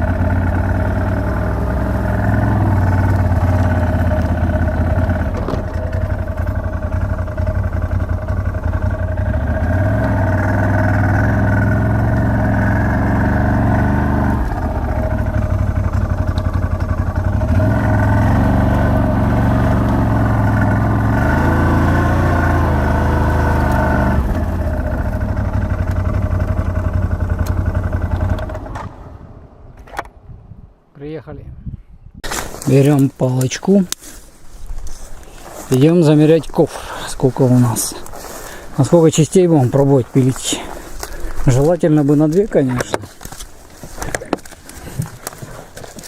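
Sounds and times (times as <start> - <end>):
vehicle engine running: 0.0 - 29.6, 34.1 - 46.0.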